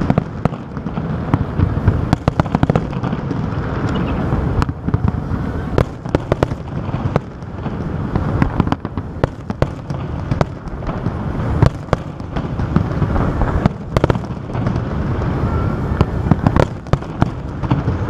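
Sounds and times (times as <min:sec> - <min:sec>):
firework bangs and crackles: 0:00.0 - 0:18.0
low rumble of bursting shells: 0:00.0 - 0:18.0.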